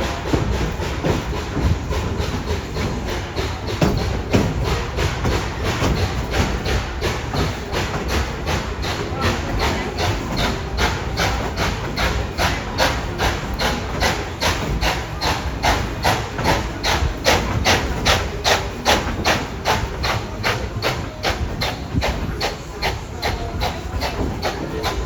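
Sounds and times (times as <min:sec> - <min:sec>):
moving train rumble: 0:00.0 - 0:25.0
steam locomotive chuffing: 0:00.0 - 0:25.0.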